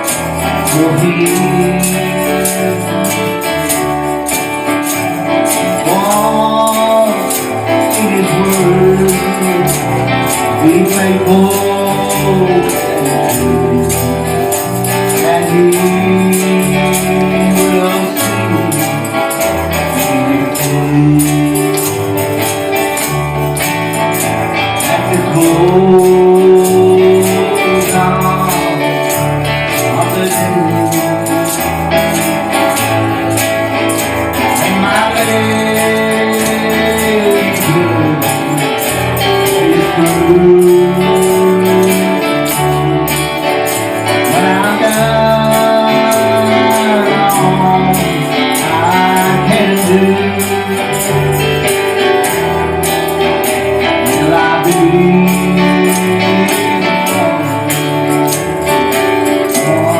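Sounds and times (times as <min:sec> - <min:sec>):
guitar and bass: 0:00.0 - 0:59.9
person singing: 0:00.0 - 0:59.9
tambourine shaking: 0:00.0 - 0:59.9.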